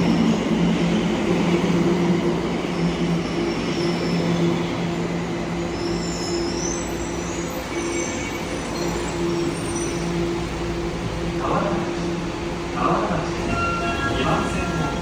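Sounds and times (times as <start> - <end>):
subway train humming and rumbling: 0.0 - 15.0.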